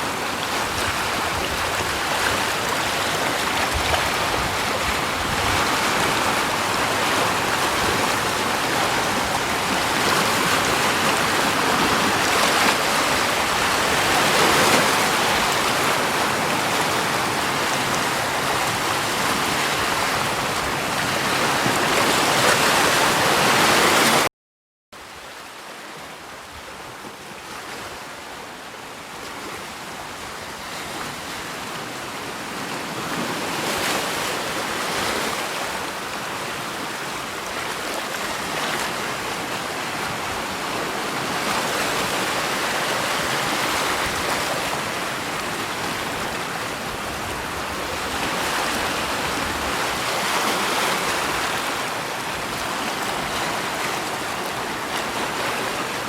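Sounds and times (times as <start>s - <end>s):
water rushing: 0.0s - 24.3s, 25.0s - 56.0s.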